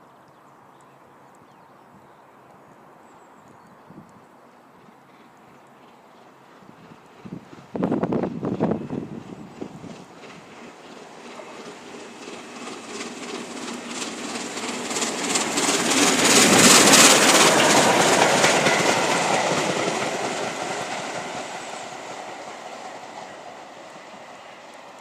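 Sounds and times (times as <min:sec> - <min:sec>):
wheels clicking over rail joints: 0:04.1 - 0:25.0
steam train passing: 0:04.2 - 0:25.0.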